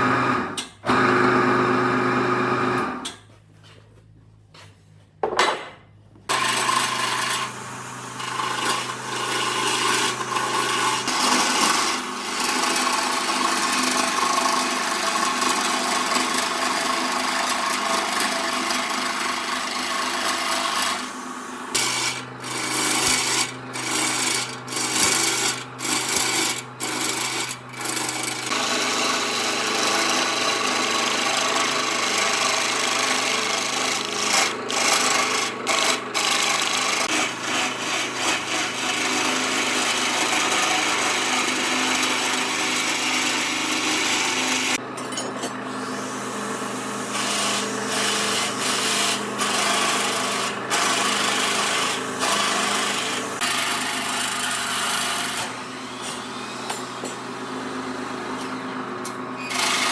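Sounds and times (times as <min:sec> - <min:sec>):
power tool rasping wood: 0:00.0 - 0:03.1, 0:06.3 - 0:44.8, 0:45.7 - 0:59.9.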